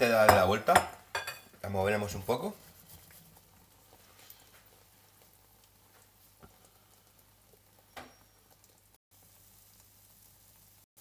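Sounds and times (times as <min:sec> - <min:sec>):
food frying crackle: 0:01.0 - 0:11.0.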